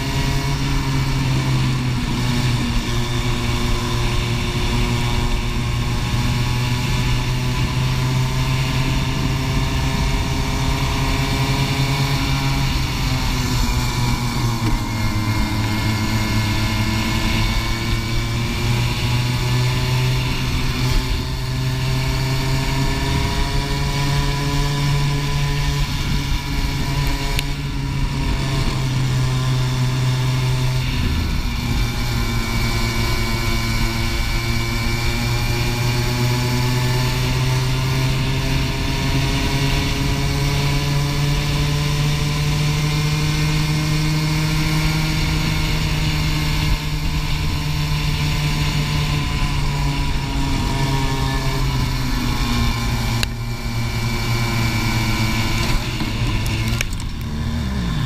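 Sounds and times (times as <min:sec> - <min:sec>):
kart engine at high revs: 0:00.0 - 0:58.0.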